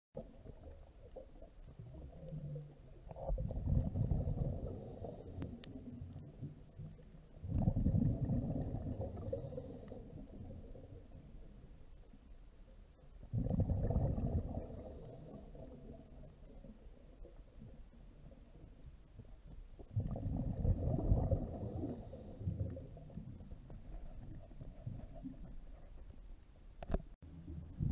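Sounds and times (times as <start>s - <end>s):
bubbles rumbling underwater: 0.2s - 11.6s, 13.2s - 18.8s, 19.7s - 25.8s, 27.2s - 27.9s.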